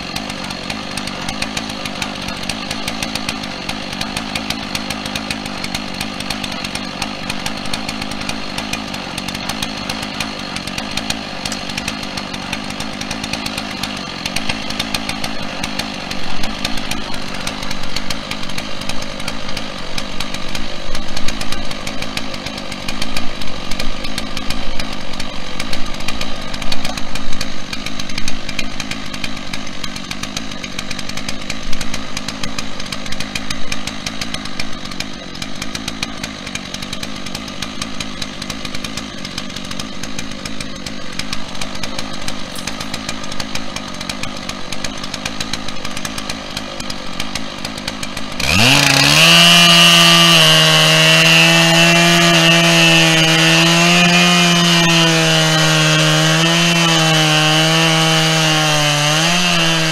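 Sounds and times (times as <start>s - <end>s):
chainsaw cutting through log: 0.0s - 59.9s.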